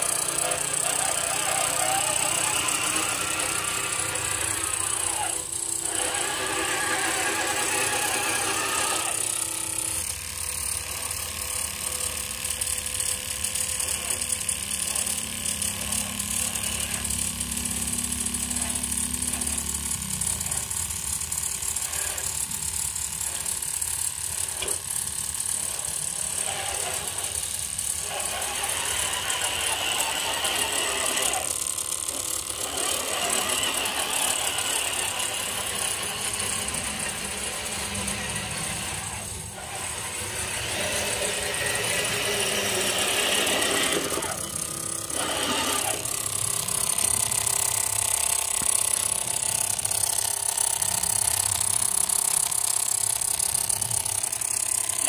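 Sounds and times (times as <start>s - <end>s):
toy truck motor whining: 0.0s - 55.0s.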